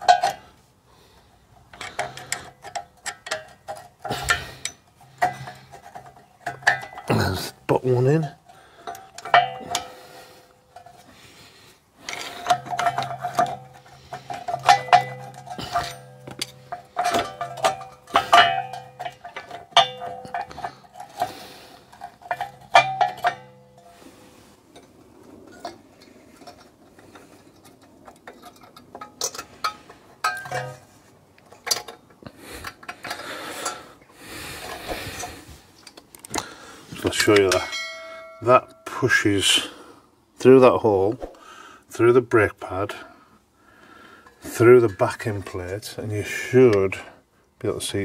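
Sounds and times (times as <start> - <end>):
metallic clinks and scrapes: 0.0 - 39.7.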